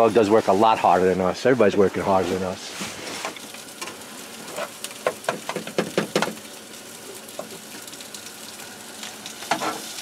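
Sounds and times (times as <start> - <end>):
eggs sizzling in frying pan: 0.0 - 10.0.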